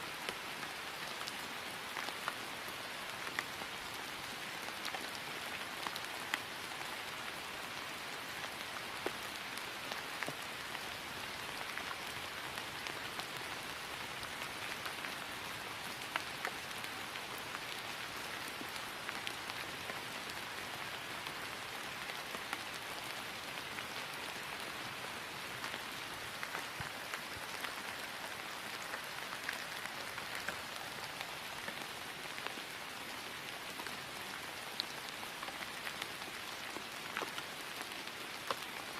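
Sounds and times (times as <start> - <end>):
rain falling on grass: 0.0 - 38.9.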